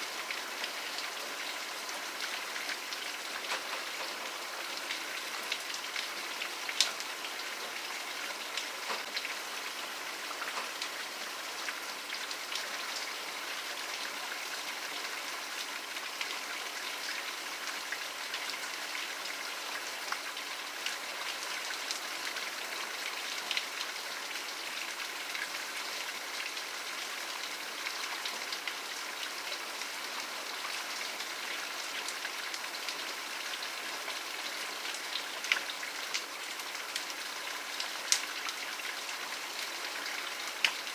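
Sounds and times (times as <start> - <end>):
raindrops striking a surface: 0.0 - 40.9
steady rain hiss: 0.0 - 40.9.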